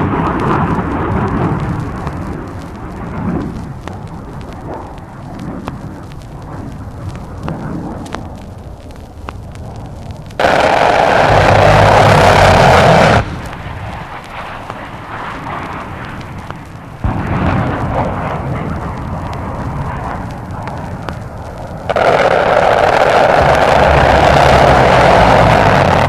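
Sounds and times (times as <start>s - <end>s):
jet blast with deep rumble: 0.0s - 26.0s
record surface crackle: 0.0s - 26.0s.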